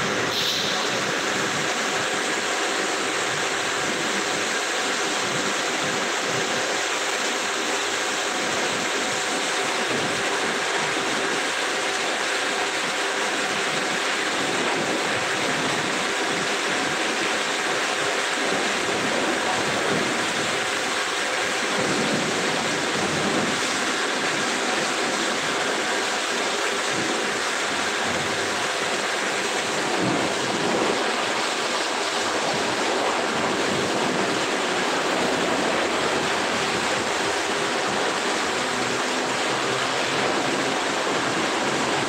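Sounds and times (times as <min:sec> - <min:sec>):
high-pressure water spray hissing: 0:00.0 - 0:42.0
water splashing on metal: 0:00.0 - 0:42.0.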